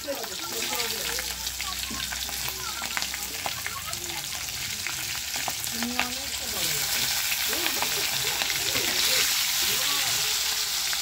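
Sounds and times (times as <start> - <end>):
vegetables sizzling and popping in oil: 0.0 - 11.0.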